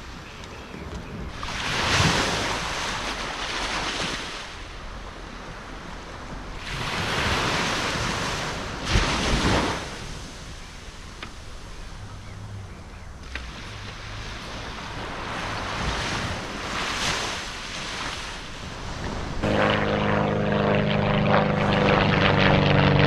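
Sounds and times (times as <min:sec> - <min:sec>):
sea waves breaking: 0:00.0 - 0:23.0.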